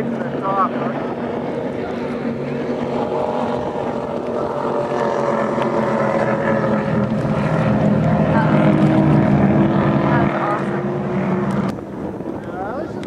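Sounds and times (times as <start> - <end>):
powerboat engines droning: 0.0 - 13.0.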